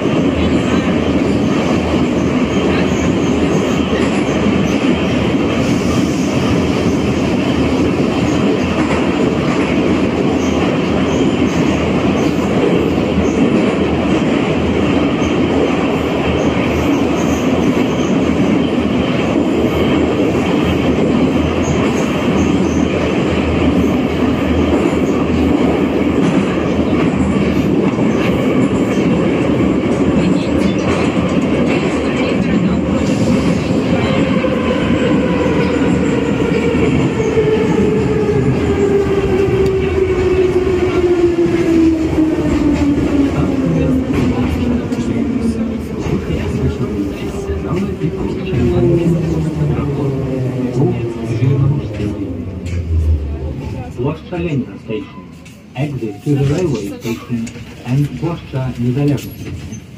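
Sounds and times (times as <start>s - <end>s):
train rumbling on rails in tunnel: 0.0s - 59.9s.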